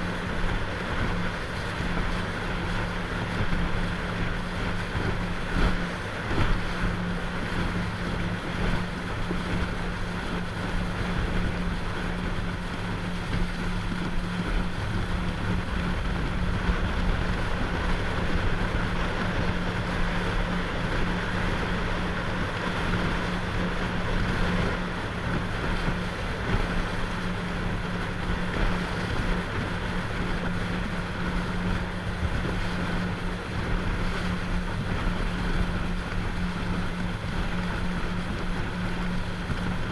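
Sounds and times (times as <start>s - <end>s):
motorboat engine droning: 0.0s - 39.9s
water rushing against hull: 0.0s - 39.9s
wind on microphone: 0.0s - 39.9s.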